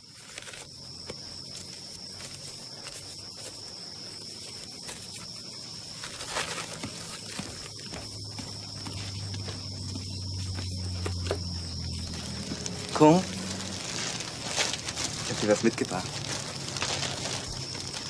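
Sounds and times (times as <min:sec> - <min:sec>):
bag rustling: 0:00.0 - 0:18.0
high thin insect drone: 0:00.0 - 0:18.0
hiss of tropical ambience: 0:00.0 - 0:18.0.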